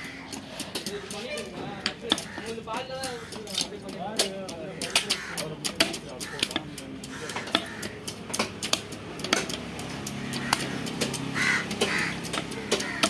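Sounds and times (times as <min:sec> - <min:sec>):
crow cawing: 0:00.0 - 0:08.5, 0:09.4 - 0:13.0.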